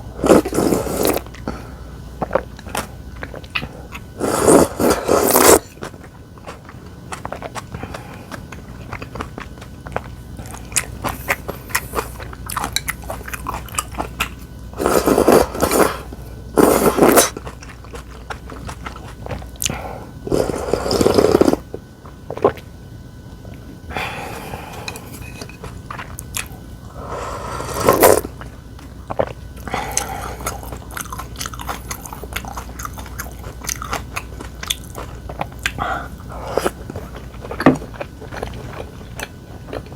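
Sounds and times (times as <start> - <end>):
chewing and biting: 2.2 - 22.7, 24.7 - 26.8, 27.7 - 39.9.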